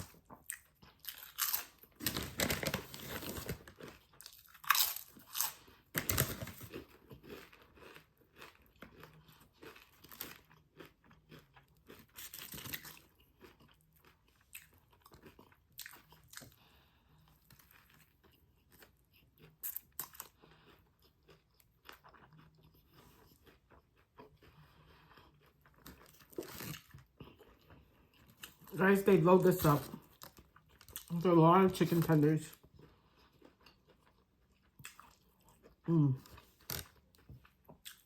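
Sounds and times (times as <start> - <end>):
person chewing crunchy food: 0.0 - 38.0.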